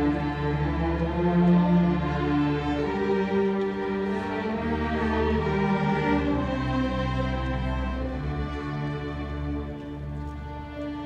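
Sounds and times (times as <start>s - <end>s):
string orchestra playing: 0.0s - 11.0s.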